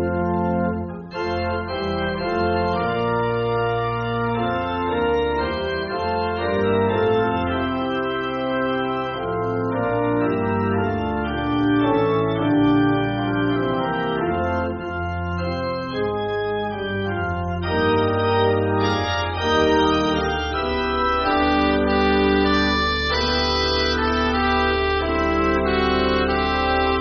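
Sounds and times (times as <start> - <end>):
organ playing sustained chords: 0.0 - 27.0.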